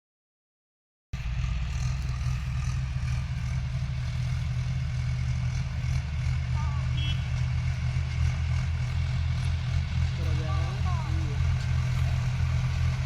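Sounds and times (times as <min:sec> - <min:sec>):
tractor diesel engine droning: 0:01.2 - 0:13.0.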